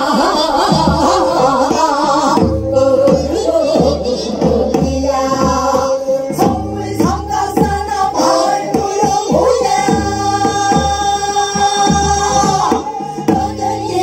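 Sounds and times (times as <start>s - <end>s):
drum beat: 0.0s - 14.0s
women singing folk song: 0.0s - 14.0s.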